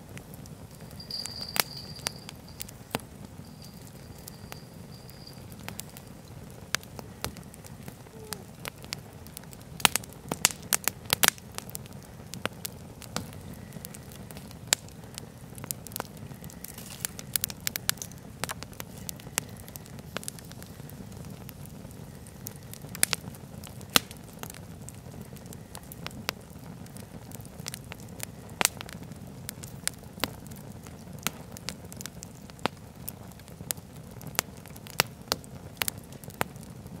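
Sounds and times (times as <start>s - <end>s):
logs crackling and popping: 0.0s - 37.0s
low rush of flame: 0.0s - 37.0s.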